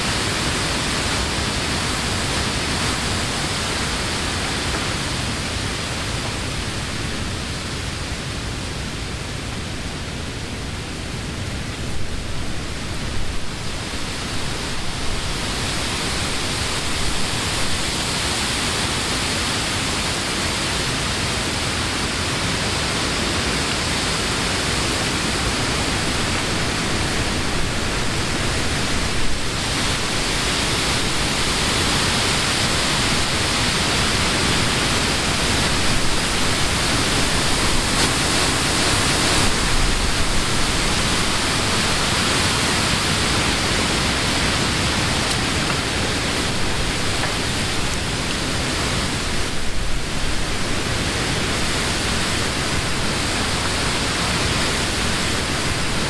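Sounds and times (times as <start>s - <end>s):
wind rustling tree leaves: 0.0s - 56.0s.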